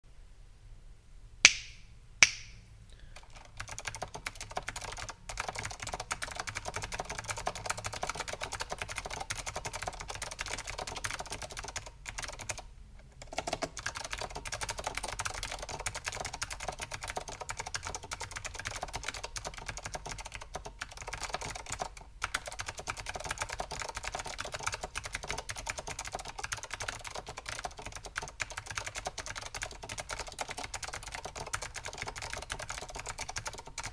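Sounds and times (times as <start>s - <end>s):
fast clicky keyboard typing: 3.0s - 33.9s.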